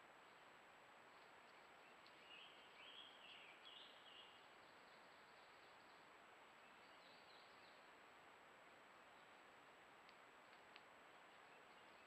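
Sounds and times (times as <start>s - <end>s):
background hiss: 0.0s - 12.0s
faint bird song: 0.0s - 12.0s.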